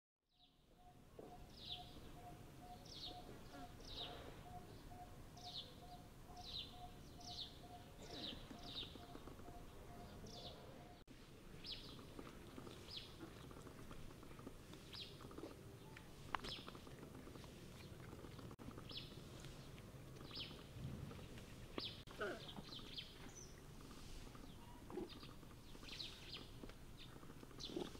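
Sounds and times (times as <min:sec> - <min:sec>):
bird chirping: 0:00.3 - 0:11.0, 0:11.6 - 0:13.4, 0:17.8 - 0:27.9.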